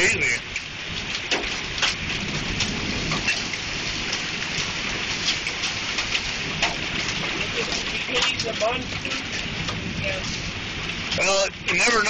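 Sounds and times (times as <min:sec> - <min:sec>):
hailstones clicking: 0:00.0 - 0:12.0
heavy rain hiss: 0:00.0 - 0:12.0.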